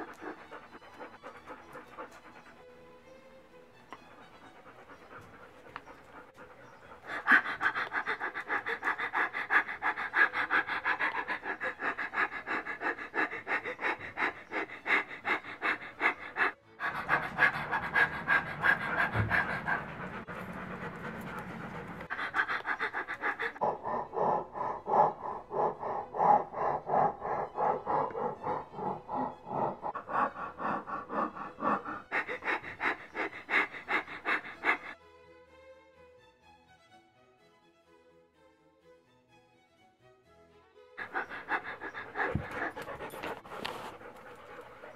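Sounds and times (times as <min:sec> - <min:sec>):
puppy panting fast: 0:00.0 - 0:35.0, 0:41.0 - 0:44.9.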